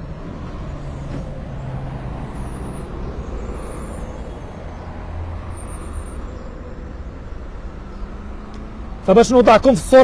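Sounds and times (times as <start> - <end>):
diesel machinery engines humming: 0.0 - 10.0.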